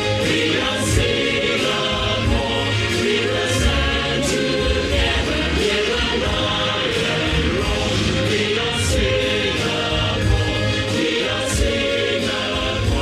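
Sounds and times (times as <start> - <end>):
backing music with low beat: 0.0 - 13.0
choir singing: 0.0 - 13.0.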